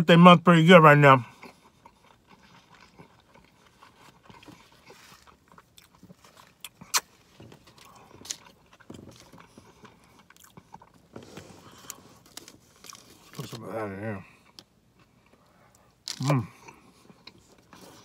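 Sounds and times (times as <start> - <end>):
person chewing: 1.2 - 18.0.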